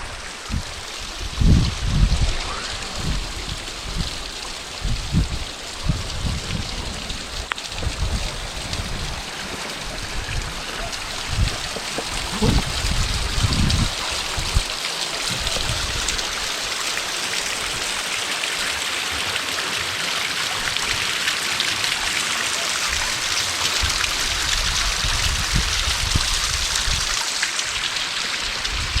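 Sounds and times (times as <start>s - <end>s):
waterfall splashing into stream: 0.0s - 29.0s.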